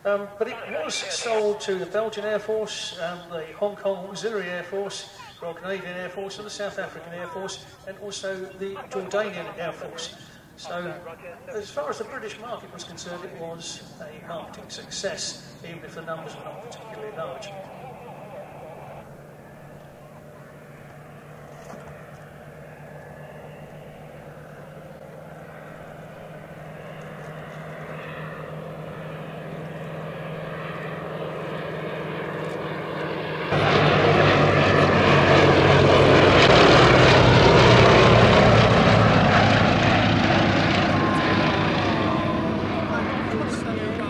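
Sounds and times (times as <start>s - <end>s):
propeller aircraft engines droning: 0.0s - 44.0s.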